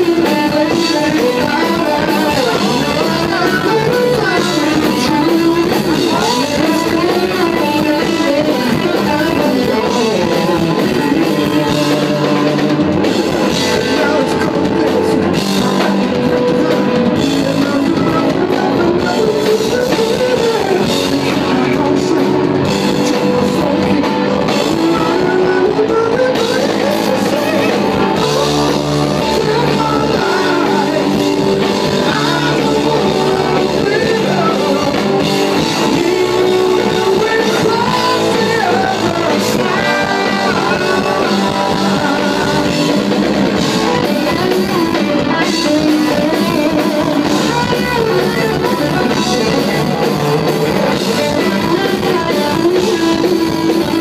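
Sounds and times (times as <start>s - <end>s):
drum kit: 0.0s - 54.0s
electric guitar: 0.0s - 54.0s
person singing: 0.0s - 54.0s.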